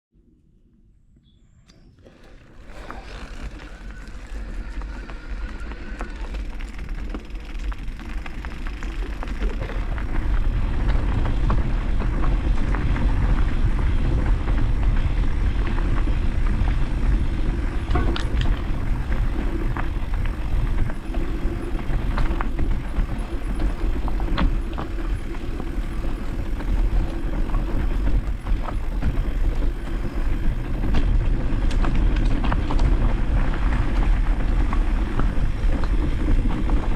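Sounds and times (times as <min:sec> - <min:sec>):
motocross motorcycles running: 0:01.8 - 0:36.9.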